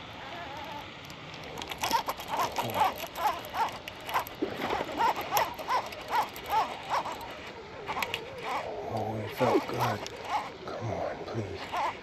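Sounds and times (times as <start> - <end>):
animal calling: 0.1 - 12.0.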